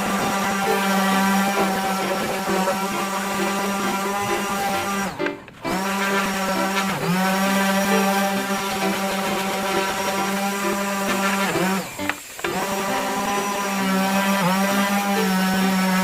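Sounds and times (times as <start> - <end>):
electric power tool motor humming: 0.0 - 16.0.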